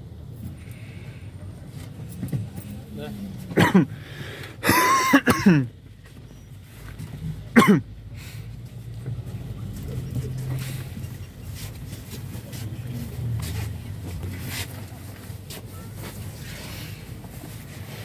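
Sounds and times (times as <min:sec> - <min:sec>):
engine hum with road noise: 0:00.0 - 0:18.0.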